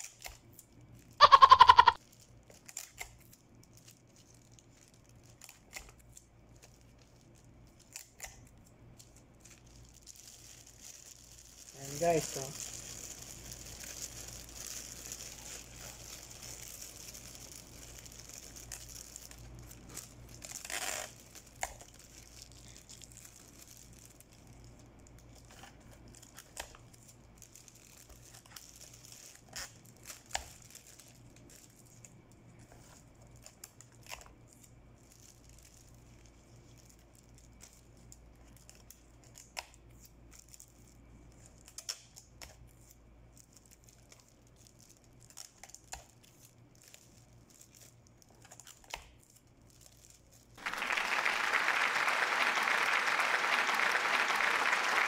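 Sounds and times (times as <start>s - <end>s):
wrapping material rustling: 2.0s - 55.0s.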